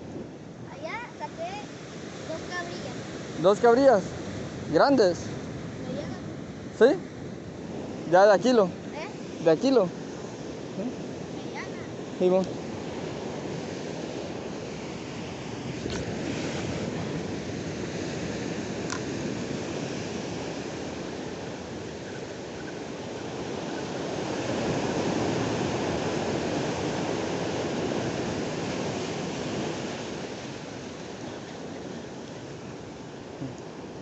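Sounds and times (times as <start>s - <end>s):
ocean surf breaking over rocks: 0.0s - 34.0s.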